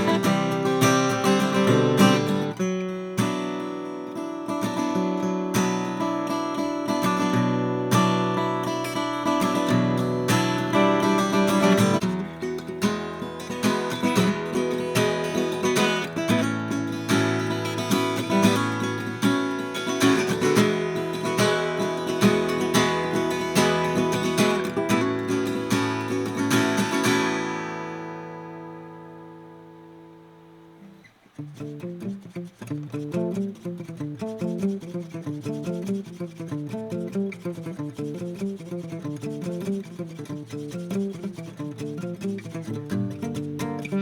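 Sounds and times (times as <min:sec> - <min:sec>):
acoustic guitar strummed and picked: 0:00.0 - 0:44.0.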